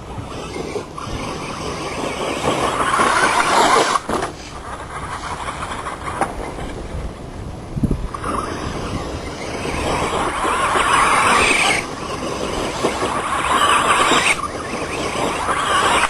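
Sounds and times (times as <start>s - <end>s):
rc truck motor and tyres: 0.0s - 16.0s.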